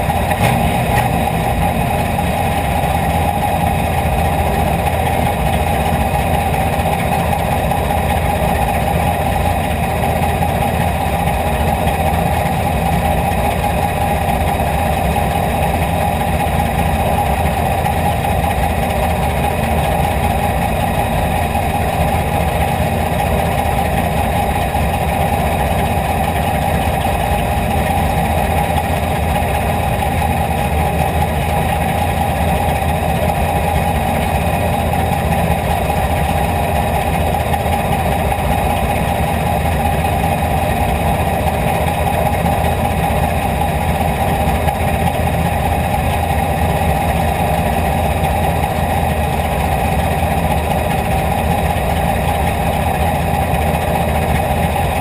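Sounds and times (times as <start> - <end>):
race car engine idling: 0.0 - 55.0.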